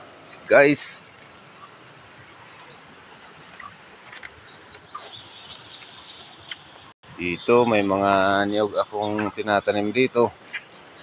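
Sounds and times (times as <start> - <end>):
birds chirping faintly: 0.0 - 11.0
steady outdoor hiss: 0.0 - 11.0.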